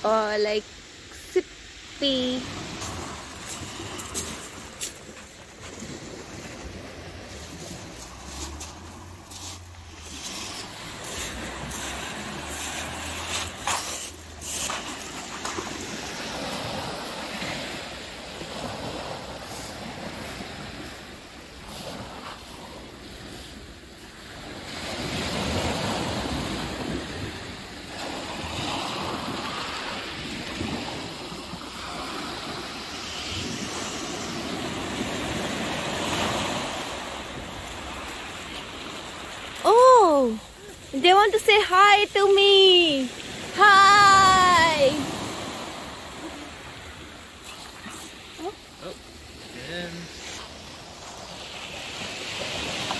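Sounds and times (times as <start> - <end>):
waves washing onto stony beach: 0.0 - 52.9.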